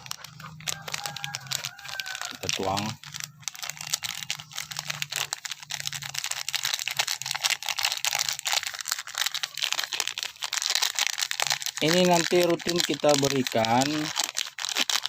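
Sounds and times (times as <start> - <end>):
plastic sachet crinkling: 0.0 - 15.0.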